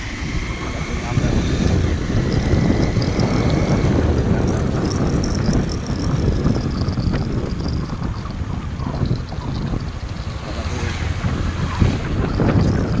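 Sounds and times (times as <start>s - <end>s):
motorcycle engine rumble: 0.0s - 13.0s
road noise: 0.0s - 13.0s
wind buffeting microphone: 0.0s - 13.0s.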